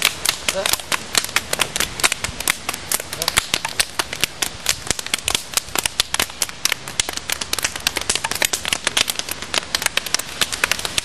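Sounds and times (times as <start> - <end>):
hands slapping and blocking: 0.0 - 11.0.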